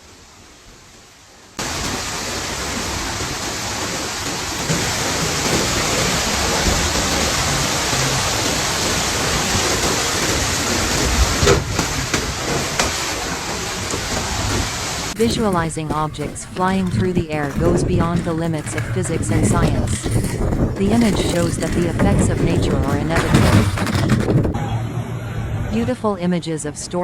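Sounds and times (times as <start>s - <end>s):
storm rushing: 1.6s - 24.6s.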